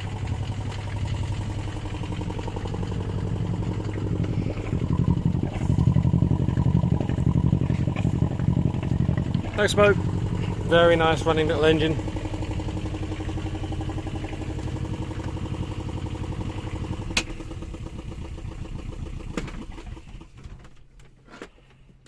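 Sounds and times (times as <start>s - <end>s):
boat diesel engine idling: 0.0s - 22.0s.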